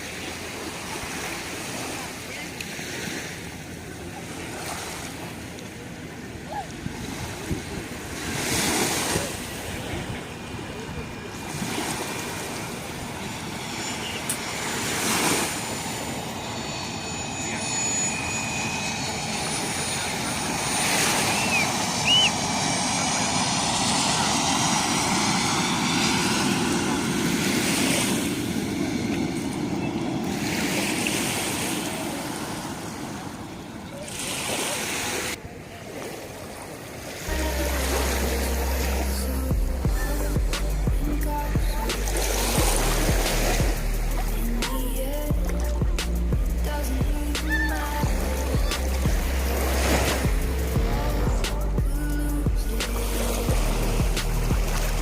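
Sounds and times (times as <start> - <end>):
sea waves washing onto beach: 0.0 - 16.5, 20.0 - 55.0
aircraft drone: 0.0 - 35.8, 36.4 - 55.0.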